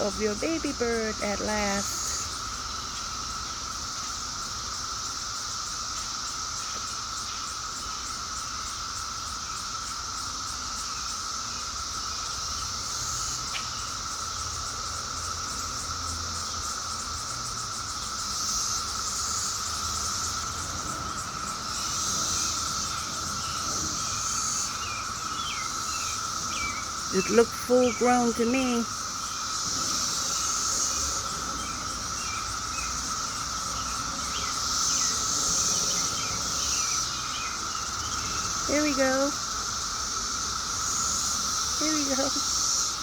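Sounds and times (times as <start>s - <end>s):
insect pulsing trill: 0.0s - 43.0s
insects droning: 0.0s - 43.0s.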